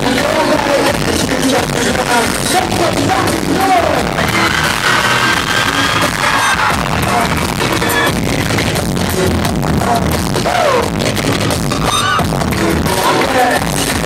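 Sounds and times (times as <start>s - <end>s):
loud electronic pop music: 0.0s - 14.0s.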